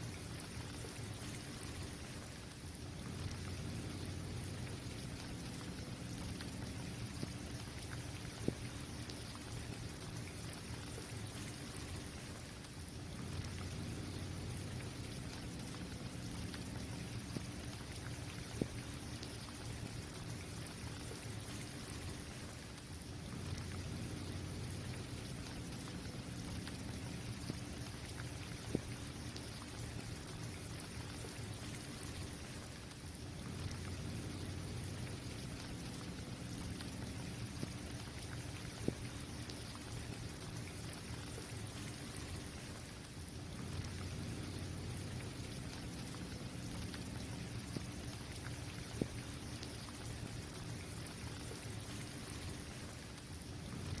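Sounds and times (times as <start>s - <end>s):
rain hissing: 0.0s - 54.0s
raindrop ticks: 0.0s - 54.0s.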